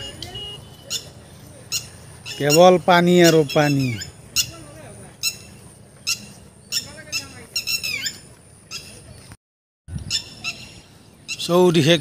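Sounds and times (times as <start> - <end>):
birds squawking: 0.0 - 9.3, 10.0 - 12.0.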